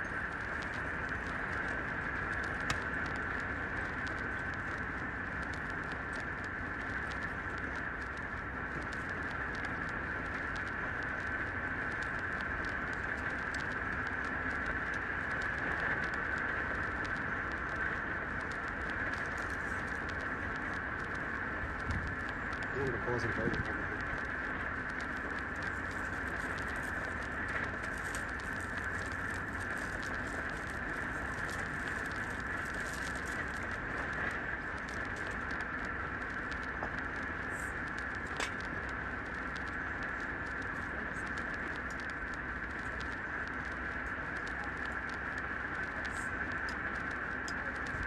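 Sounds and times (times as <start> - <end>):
high-pitched background hum: 0.0 - 48.0
steady high-pitched hiss: 0.0 - 48.0.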